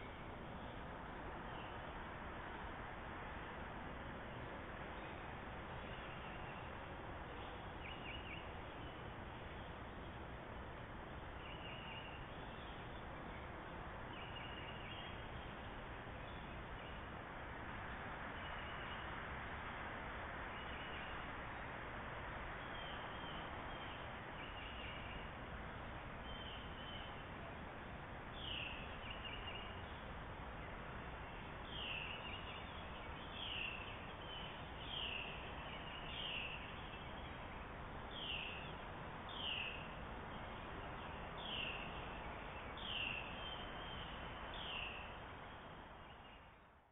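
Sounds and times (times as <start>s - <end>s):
steady outdoor hiss: 0.0s - 46.9s.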